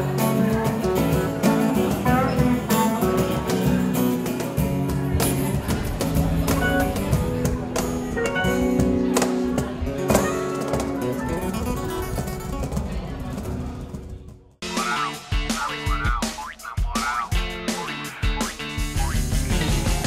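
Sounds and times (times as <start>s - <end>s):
acoustic guitar strummed: 0.0s - 12.6s, 14.6s - 20.0s.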